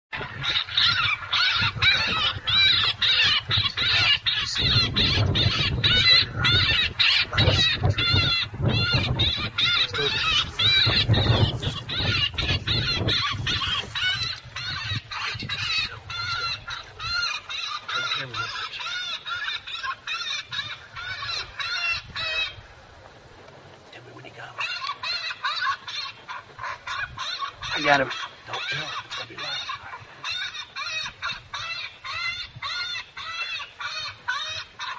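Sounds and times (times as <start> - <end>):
wind rumble on microphone: 0.1 - 34.9
bird distress squawking call: 0.2 - 22.8, 24.4 - 34.9.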